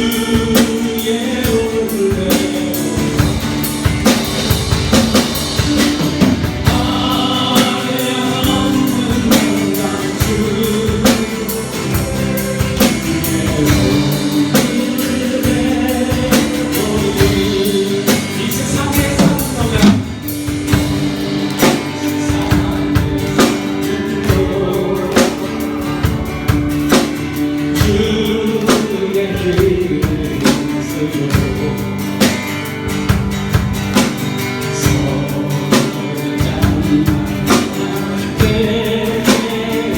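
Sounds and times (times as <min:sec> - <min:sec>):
person singing: 0:00.0 - 0:04.5, 0:05.4 - 0:32.1, 0:34.6 - 0:39.9
live band playing: 0:00.0 - 0:39.9.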